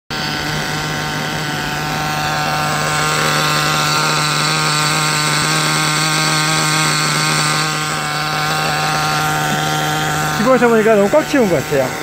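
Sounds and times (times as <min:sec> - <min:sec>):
small nitro engine idling: 0:00.1 - 0:12.0.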